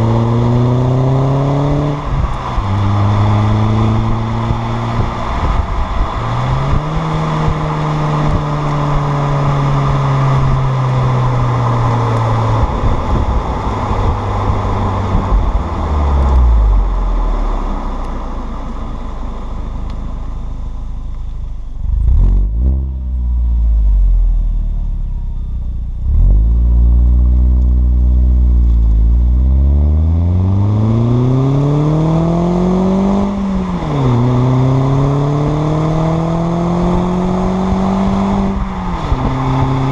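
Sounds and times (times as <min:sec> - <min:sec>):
car engine revving through gears: 0:00.0 - 0:17.5, 0:21.8 - 0:23.5, 0:26.0 - 0:39.9.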